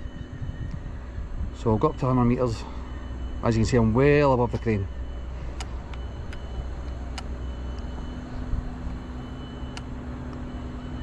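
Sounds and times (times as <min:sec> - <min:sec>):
faint steady hum: 0:00.0 - 0:11.0
low outdoor rumble: 0:00.0 - 0:11.0.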